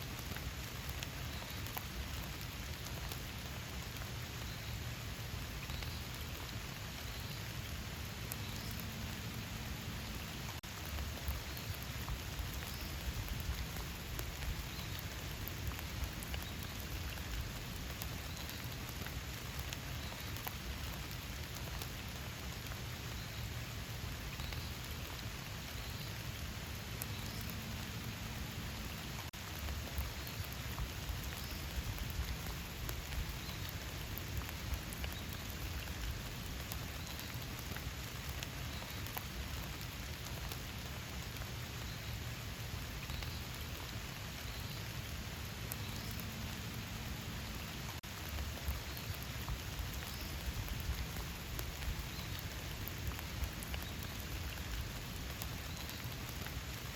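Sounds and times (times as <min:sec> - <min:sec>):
rain pattering: 0:00.0 - 0:56.9
raindrops ticking: 0:00.0 - 0:56.9.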